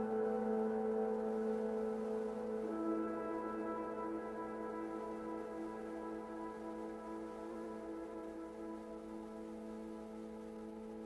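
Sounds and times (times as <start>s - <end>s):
ambient drone music: 0.0s - 11.0s.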